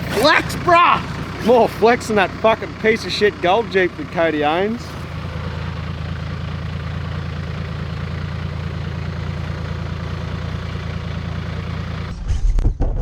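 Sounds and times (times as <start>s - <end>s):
engine idling low: 0.0s - 12.2s.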